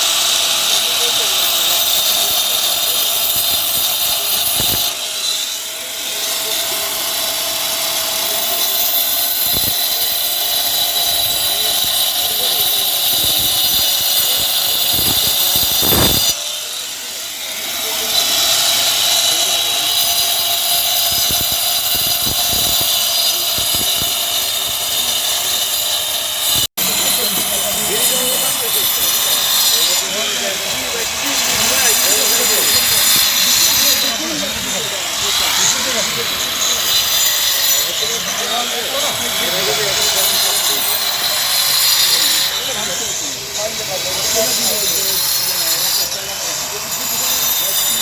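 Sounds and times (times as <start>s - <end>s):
electric grinder cutting wall: 0.0s - 48.0s.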